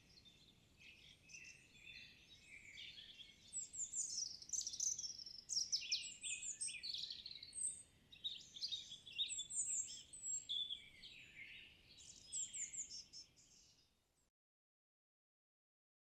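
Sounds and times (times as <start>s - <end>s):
songbirds chirping and trilling: 0.0s - 14.2s.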